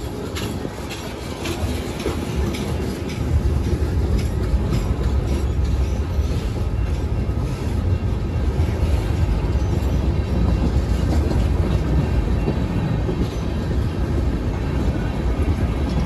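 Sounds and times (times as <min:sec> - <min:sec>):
freight train rumbling past: 0:00.0 - 0:16.0
train wheels clicking over rails: 0:00.0 - 0:16.0.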